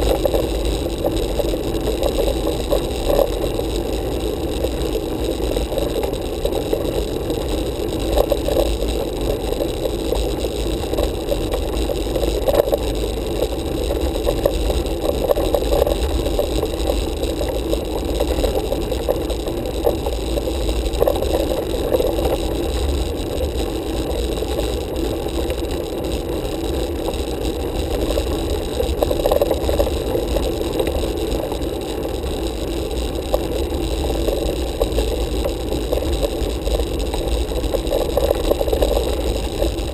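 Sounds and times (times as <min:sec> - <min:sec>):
bike rolling on tarmac: 0:00.0 - 0:39.9.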